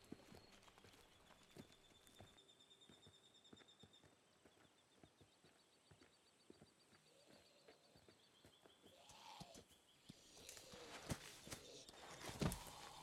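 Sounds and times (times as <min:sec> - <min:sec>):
footsteps on dry ground: 0:00.0 - 0:03.6, 0:05.4 - 0:13.0.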